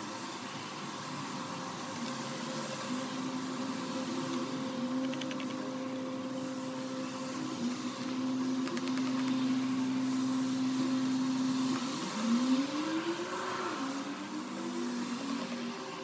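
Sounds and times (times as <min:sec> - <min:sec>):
motor-like hum: 0:00.0 - 0:16.0.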